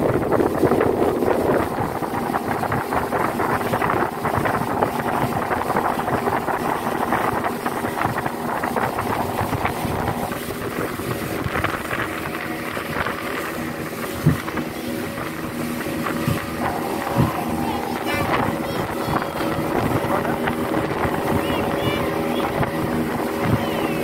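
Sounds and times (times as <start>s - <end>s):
outboard motor running: 0.0s - 24.0s
wind noise on microphone: 0.0s - 24.0s.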